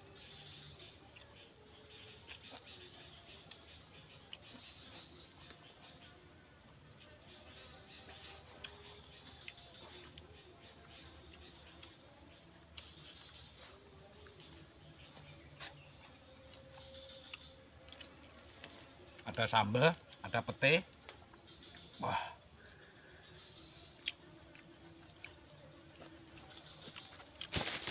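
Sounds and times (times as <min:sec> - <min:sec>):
insect chorus trilling: 0:00.0 - 0:27.9.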